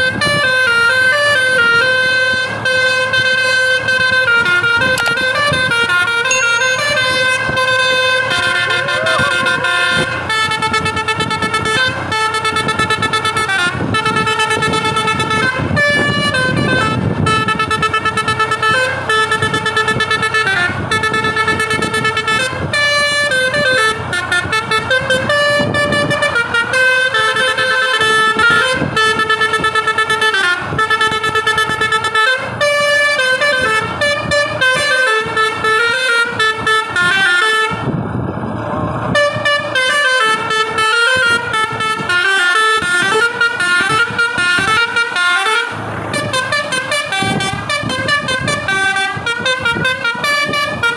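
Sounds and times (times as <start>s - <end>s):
musical bus air horn tune: 0.0s - 50.9s.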